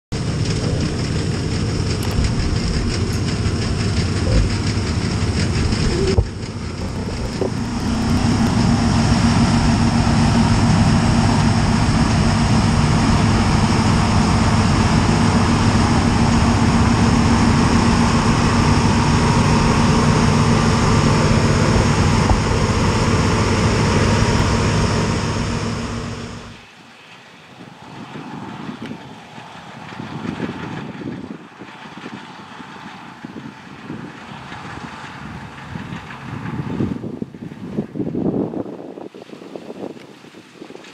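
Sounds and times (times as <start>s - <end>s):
combine harvester running: 0.1s - 38.8s.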